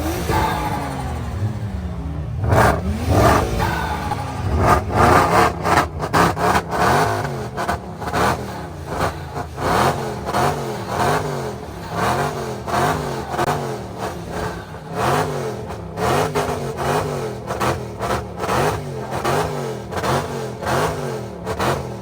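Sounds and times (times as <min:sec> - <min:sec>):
sharp exhaust cracks: 0:00.0 - 0:21.9
car engine revving in blips: 0:00.0 - 0:22.0.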